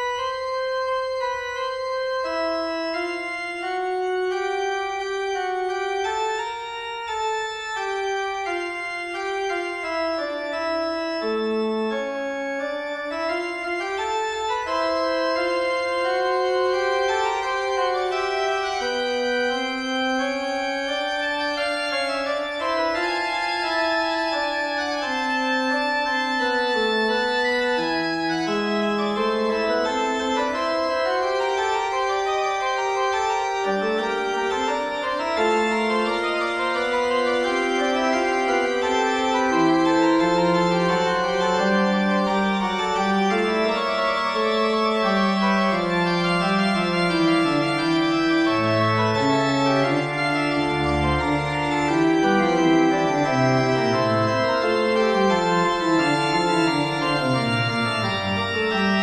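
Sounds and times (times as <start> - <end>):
slow electronic keyboard melody: 0.0 - 59.0.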